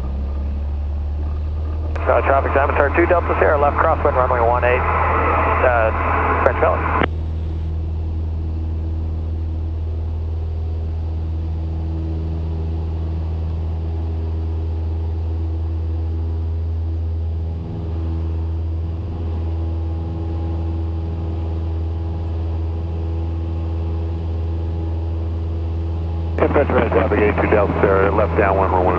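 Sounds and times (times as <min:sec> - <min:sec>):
propeller aircraft engine droning: 0:00.0 - 0:28.9.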